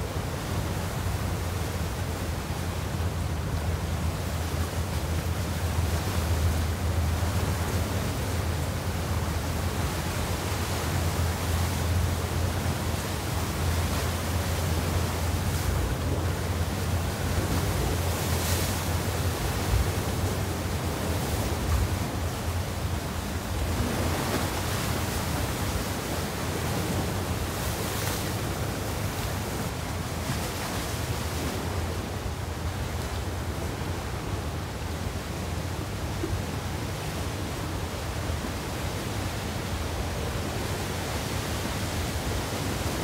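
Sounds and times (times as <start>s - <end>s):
choppy waves: 0.0s - 43.0s
wind: 0.0s - 43.0s.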